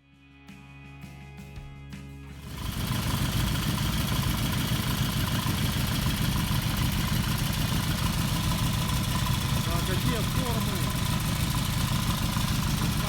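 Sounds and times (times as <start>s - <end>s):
motorcycle engine idling: 2.4s - 13.0s.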